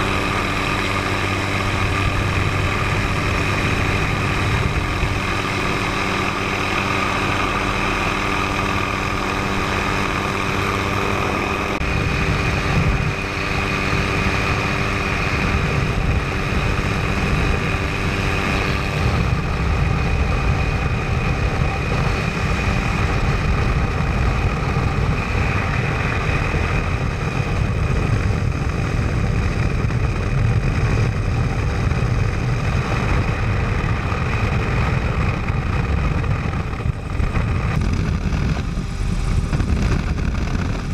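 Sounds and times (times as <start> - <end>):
helicopter rotor and engine drone: 0.0 - 40.9
helicopter turbine whine: 0.0 - 40.9.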